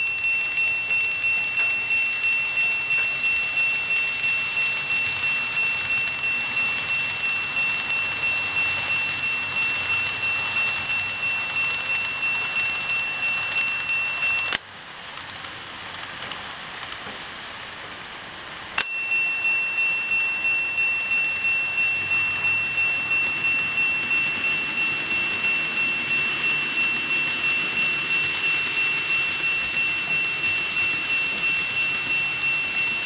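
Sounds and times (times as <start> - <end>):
level-crossing warning bell: 0.0 - 14.6, 18.8 - 33.0.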